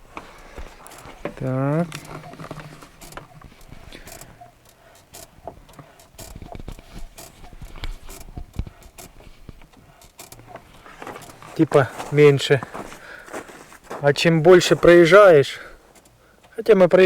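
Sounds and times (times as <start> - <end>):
clutch pedal squeaks and clicks: 0.0 - 13.0, 15.0 - 16.7.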